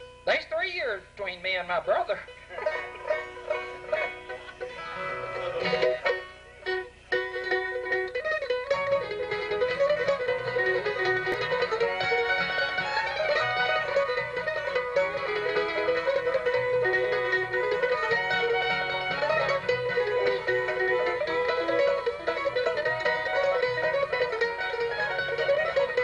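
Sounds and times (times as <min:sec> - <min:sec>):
bluegrass band playing: 0:00.0 - 0:26.0.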